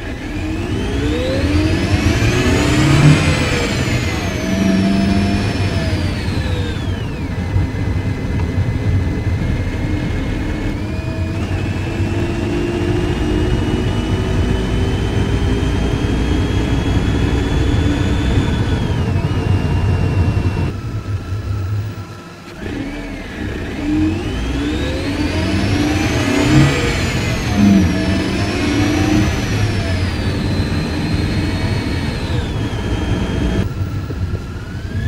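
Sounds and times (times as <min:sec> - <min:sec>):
car engine accelerating: 0:00.0 - 0:35.0
supercharger whine: 0:00.0 - 0:35.0.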